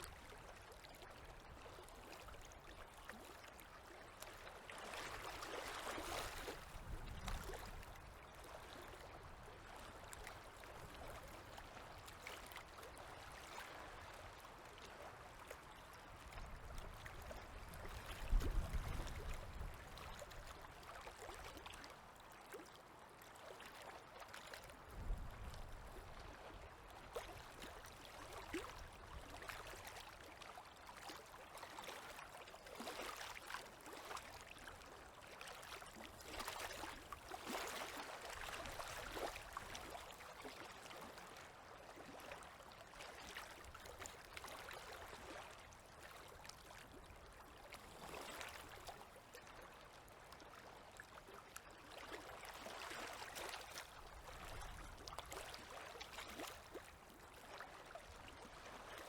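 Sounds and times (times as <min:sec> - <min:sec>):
river water lapping at shore: 0:00.0 - 0:59.0.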